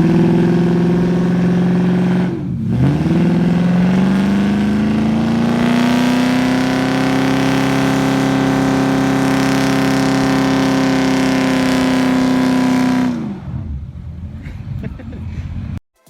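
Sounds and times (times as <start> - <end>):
car engine at high revs: 0.0 - 15.8.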